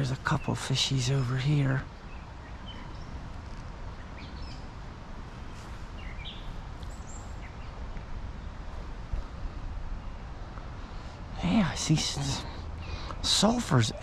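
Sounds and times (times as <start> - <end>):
creek rushing: 0.0 - 14.0
songbird chirps: 0.0 - 14.0.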